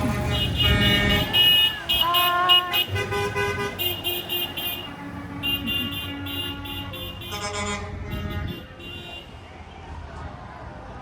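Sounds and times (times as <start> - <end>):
truck horns honking: 0.0 - 9.5
truck engines rumbling: 0.0 - 11.0.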